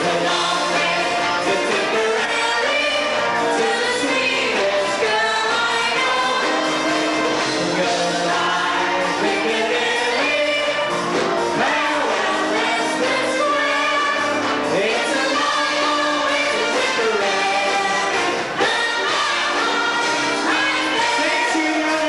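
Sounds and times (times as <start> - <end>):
old song recording with singing: 0.0 - 22.0.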